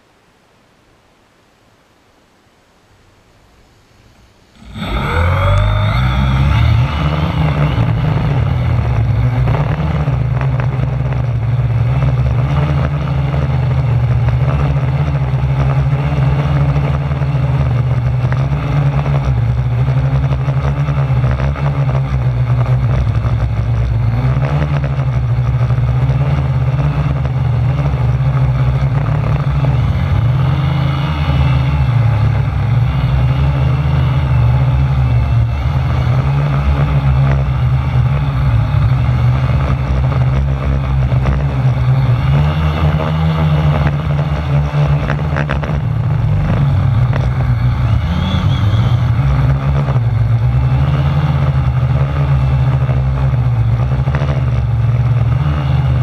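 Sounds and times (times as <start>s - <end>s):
drone propellers buzzing: 3.6s - 56.0s.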